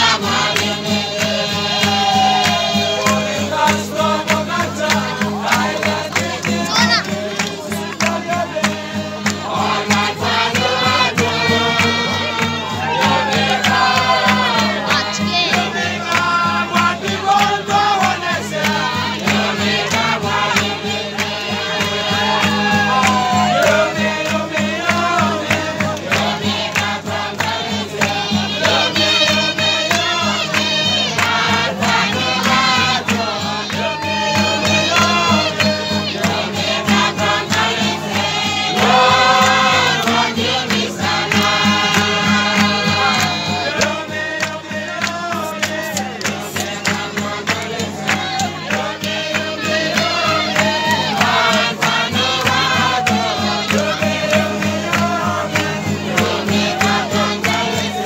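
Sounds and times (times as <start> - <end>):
crowd of voices: 0.0 - 58.0
group singing in chorus: 0.0 - 58.0
strummed acoustic guitars: 0.0 - 58.0.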